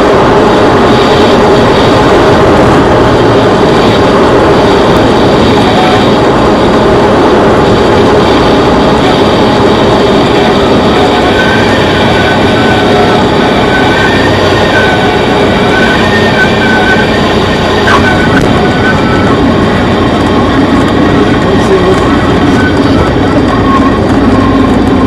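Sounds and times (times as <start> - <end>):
light airplane engine and propeller: 0.0 - 25.0.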